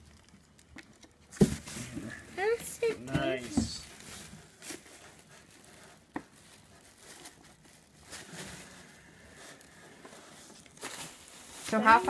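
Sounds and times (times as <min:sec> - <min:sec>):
plastic wrap rustling: 0:00.0 - 0:12.0.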